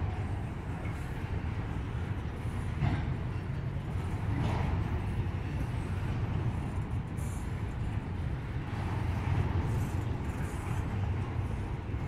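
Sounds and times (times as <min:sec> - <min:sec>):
freight train rumbling on track: 0:00.0 - 0:12.0.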